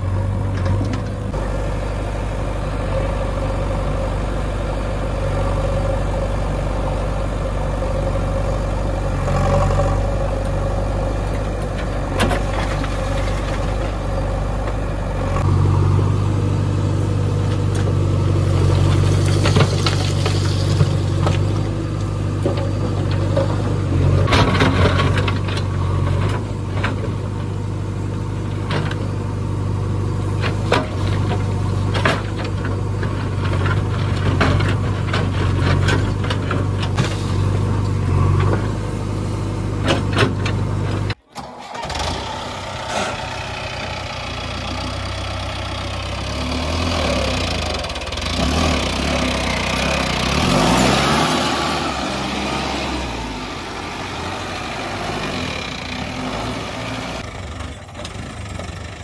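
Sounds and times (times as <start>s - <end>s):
backhoe digging stony soil: 0.0s - 59.0s
diesel engines running: 0.0s - 59.0s.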